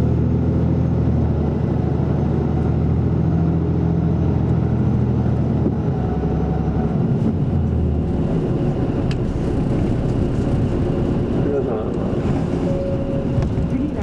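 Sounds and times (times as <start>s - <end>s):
bus engine hum: 0.0s - 14.0s
road noise: 0.0s - 14.0s.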